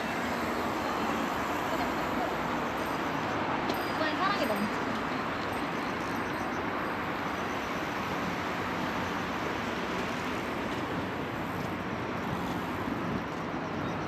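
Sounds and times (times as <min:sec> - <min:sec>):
city traffic noise: 0:00.0 - 0:14.0.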